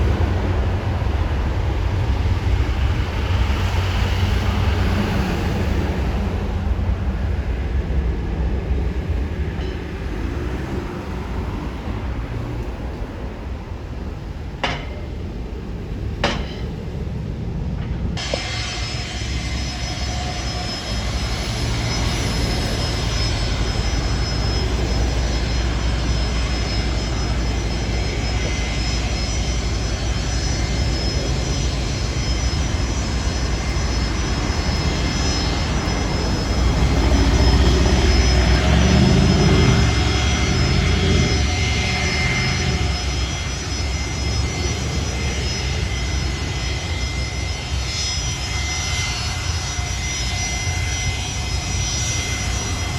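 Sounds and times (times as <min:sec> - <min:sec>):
jet engines whining and rumbling: 0:00.0 - 0:52.9.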